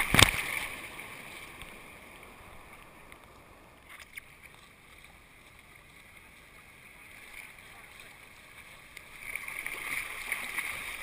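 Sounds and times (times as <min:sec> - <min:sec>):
low wash of water: 0:00.0 - 0:11.0
surf water splashing: 0:00.0 - 0:11.0.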